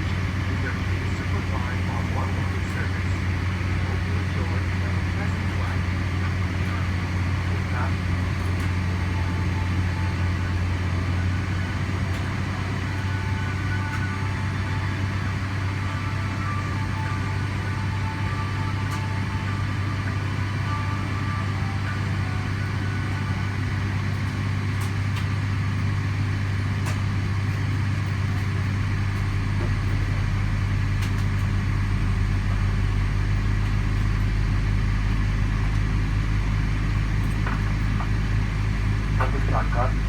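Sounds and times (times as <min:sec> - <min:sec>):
airliner cabin rumble: 0:00.0 - 0:40.0.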